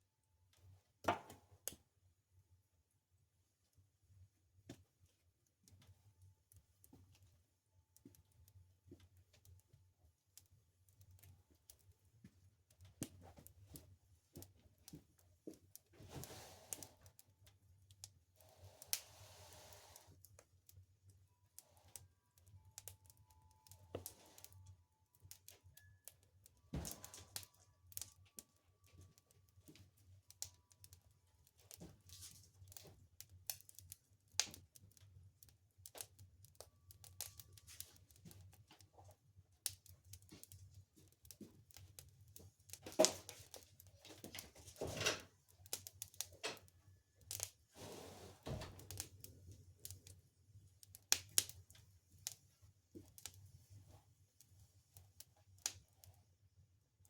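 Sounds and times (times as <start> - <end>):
fire crackling and popping: 7.9 - 53.7, 54.4 - 56.2.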